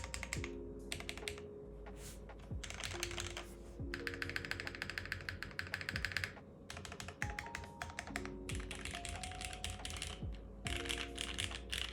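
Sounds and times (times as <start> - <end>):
background music: 0.0 - 11.9
rapid keyboard typing: 0.0 - 11.9.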